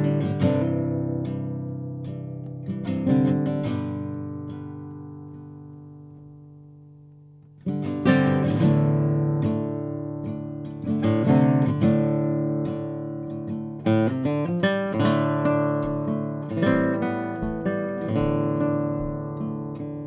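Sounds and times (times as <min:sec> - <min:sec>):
solo acoustic guitar: 0:00.0 - 0:20.0.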